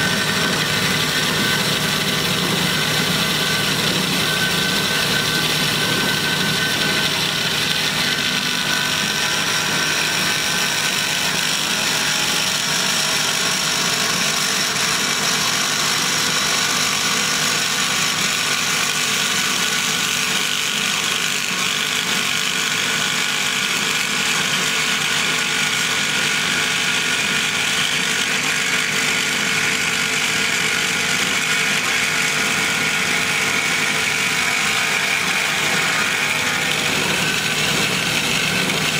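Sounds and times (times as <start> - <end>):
band saw cutting steel tube: 0.0 - 38.9.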